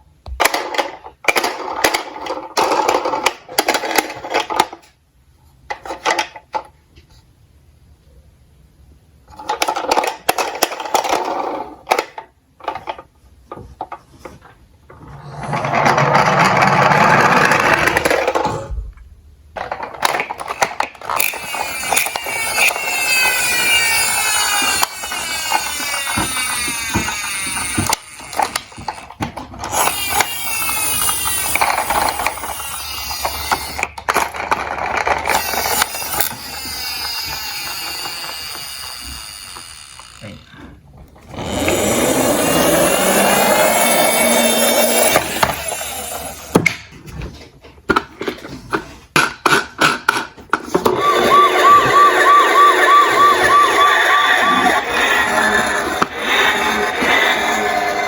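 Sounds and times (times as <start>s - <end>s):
toy cars rolling and clattering: 0.3s - 5.0s, 5.6s - 6.8s, 9.2s - 18.8s, 19.5s - 58.0s.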